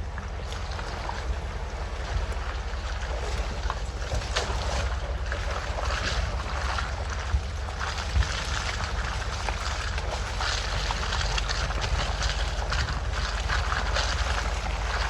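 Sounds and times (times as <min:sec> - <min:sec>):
gravel crackling under tyres: 0:00.0 - 0:15.0
vehicle rumbling on dirt trail: 0:00.0 - 0:15.0.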